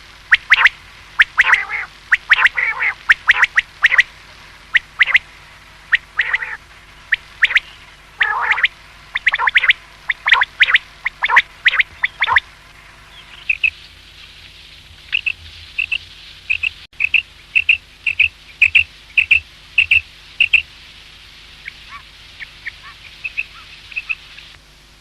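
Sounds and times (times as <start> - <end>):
quail calling: 0.3 - 4.1, 4.7 - 5.3, 5.9 - 12.5, 13.1 - 13.8, 15.1 - 20.7, 21.6 - 24.5.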